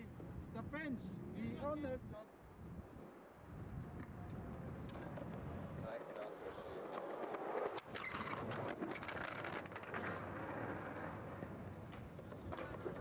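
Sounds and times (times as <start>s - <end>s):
skateboard wheels rolling on concrete: 2.4s - 13.0s.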